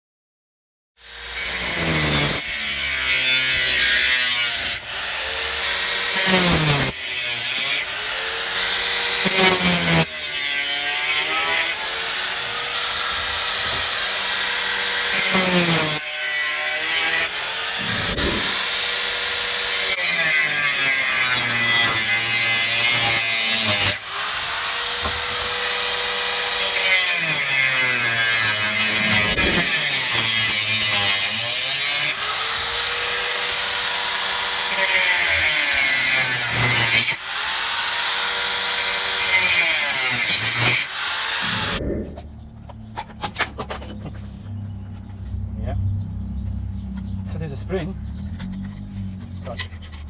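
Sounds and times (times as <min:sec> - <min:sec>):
power tool cutting steel: 0:01.0 - 0:41.8.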